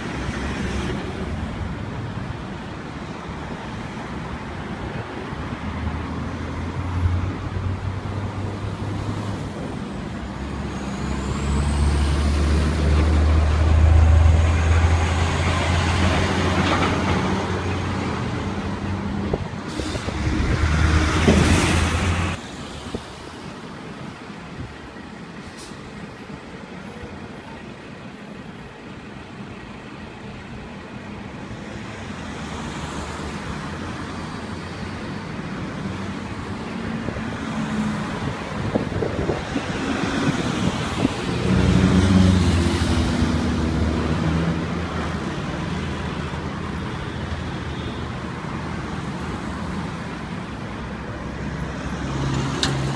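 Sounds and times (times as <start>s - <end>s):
road traffic: 0.0s - 52.9s.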